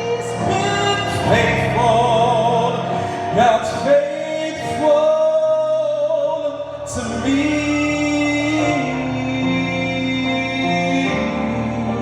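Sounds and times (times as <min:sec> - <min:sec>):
person singing gospel song: 0:00.0 - 0:12.0.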